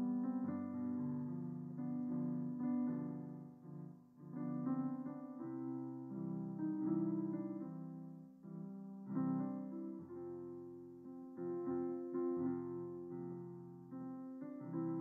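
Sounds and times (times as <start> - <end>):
piano playing slow hymn: 0.0 - 15.0.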